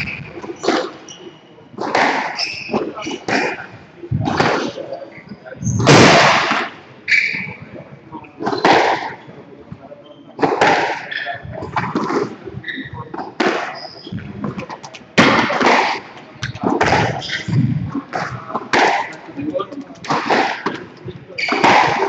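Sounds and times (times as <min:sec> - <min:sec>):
people talking: 0:00.0 - 0:22.0.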